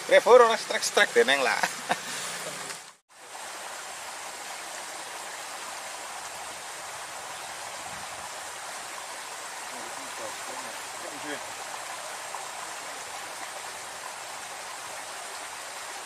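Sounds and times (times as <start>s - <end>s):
water rushing in a ditch: 0.0s - 16.0s.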